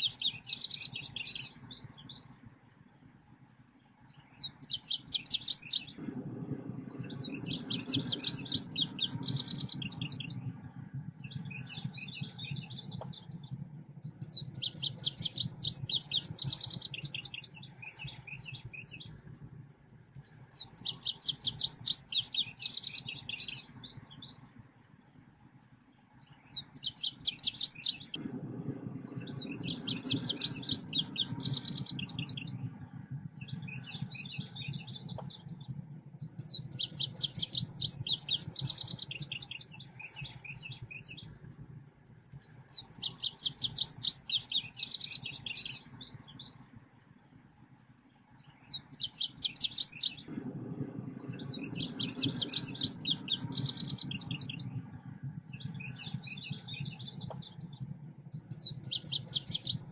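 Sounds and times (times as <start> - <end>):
bird chirping trills: 0.0 - 2.7, 3.8 - 24.8, 25.9 - 47.0, 48.1 - 59.9
low rumbling background: 0.0 - 59.9.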